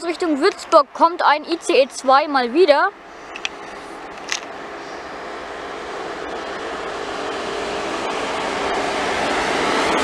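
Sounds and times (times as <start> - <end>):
electric train approaching: 0.0 - 10.0
faint steady hum: 0.0 - 10.0.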